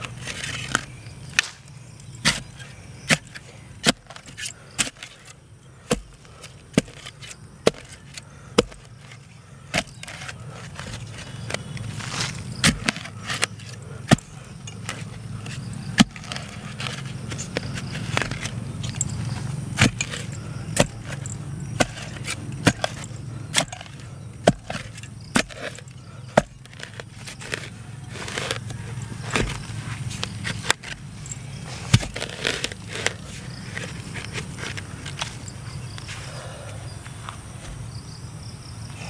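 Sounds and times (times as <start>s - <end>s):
spade digging into soil: 0.0s - 36.1s
steady low hum: 0.0s - 39.0s.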